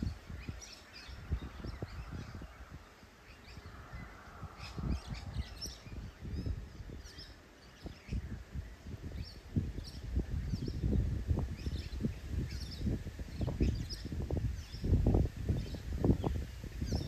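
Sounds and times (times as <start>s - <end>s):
birds chirping: 0.0s - 17.0s
wind buffeting microphone: 0.0s - 17.0s.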